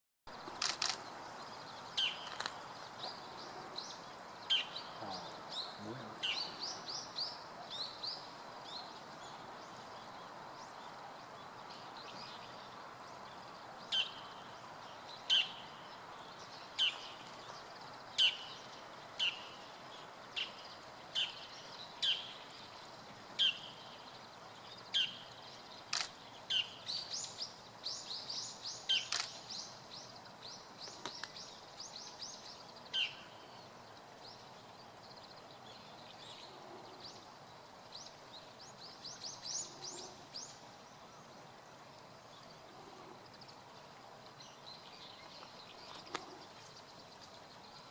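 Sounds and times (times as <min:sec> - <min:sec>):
steady outdoor hiss: 0:00.3 - 0:47.9.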